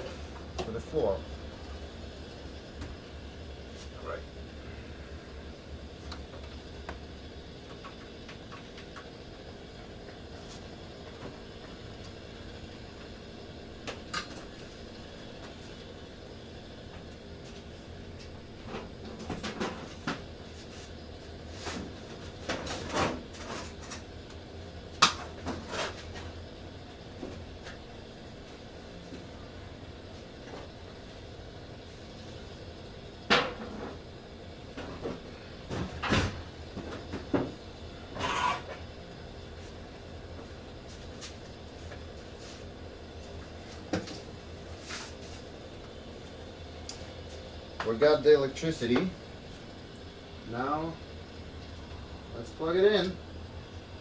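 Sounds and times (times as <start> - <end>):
faint room hum: 0.0 - 54.0.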